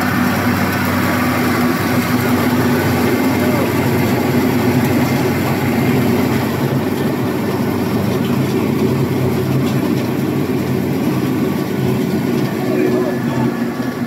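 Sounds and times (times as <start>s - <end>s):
rice milling machine drone: 0.0s - 14.0s.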